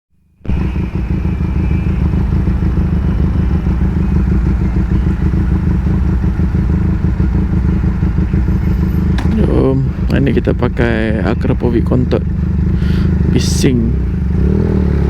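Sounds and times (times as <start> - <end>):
motorcycle engine idling: 0.4 - 15.0.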